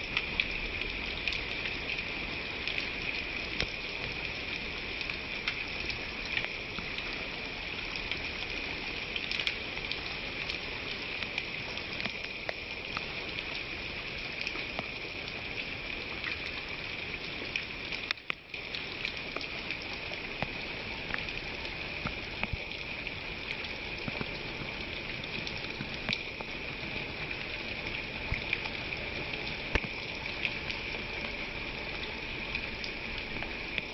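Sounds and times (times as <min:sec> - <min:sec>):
raindrops ticking on surface: 0:00.0 - 0:33.9
steady rain hiss: 0:00.0 - 0:33.9.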